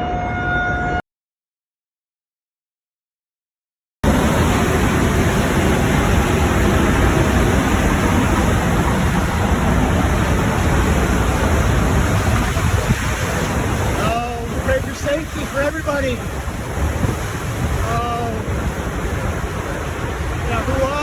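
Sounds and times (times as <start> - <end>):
strong wind on microphone: 4.0 - 21.0.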